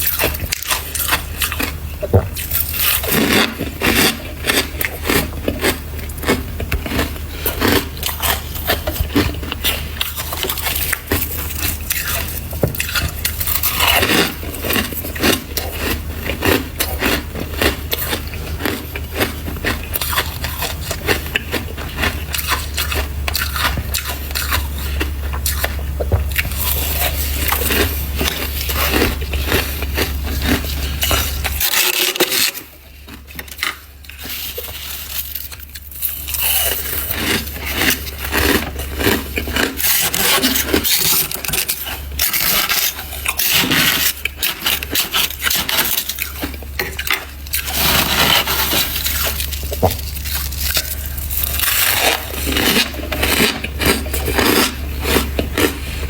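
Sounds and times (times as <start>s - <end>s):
frost crunching when chewed: 0.0s - 56.0s
steady low hum: 0.0s - 56.0s.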